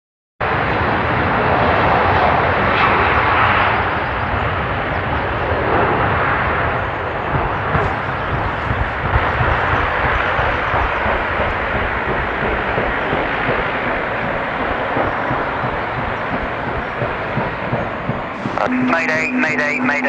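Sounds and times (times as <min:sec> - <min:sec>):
jet engines roaring: 0:00.4 - 0:20.0.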